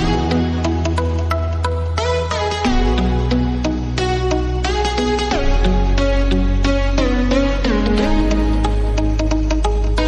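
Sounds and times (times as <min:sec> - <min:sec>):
electronic music with synth: 0:00.0 - 0:10.0.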